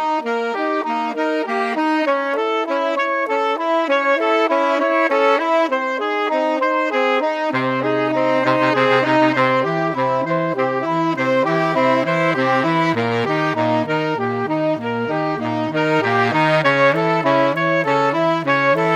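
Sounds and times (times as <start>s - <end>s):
bass line: 3.6s - 18.9s.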